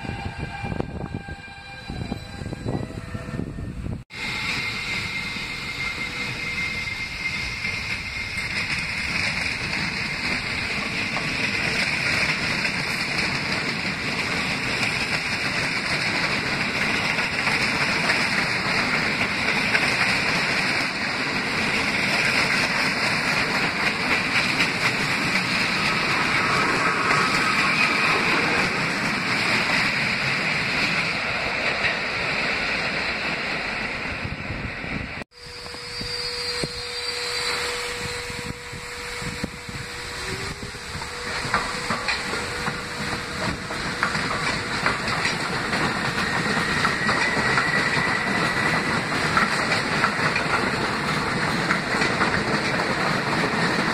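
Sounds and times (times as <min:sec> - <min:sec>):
subway train wheels rumbling on rails: 0:00.0 - 0:53.9.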